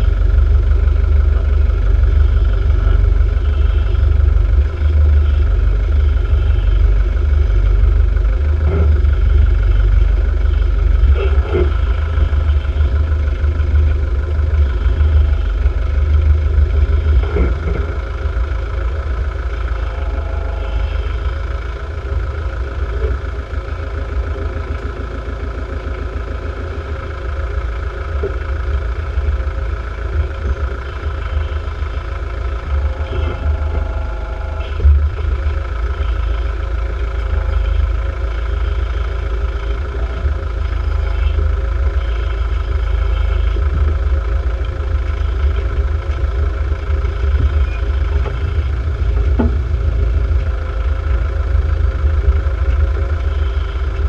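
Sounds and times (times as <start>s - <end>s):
diesel engine low rumble: 0.0s - 54.0s.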